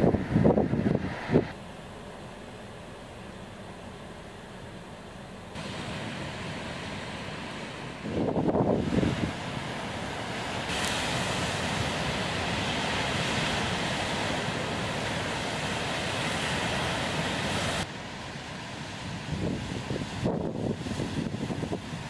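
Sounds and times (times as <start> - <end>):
low wind noise: 0.0 - 22.0
surf crashing on rocks: 0.0 - 22.0.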